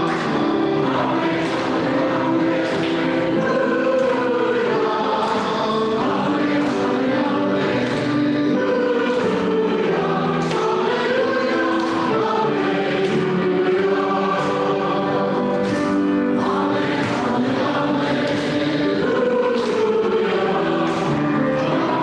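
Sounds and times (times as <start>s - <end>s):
choir and congregation singing hymn: 0.0s - 22.0s.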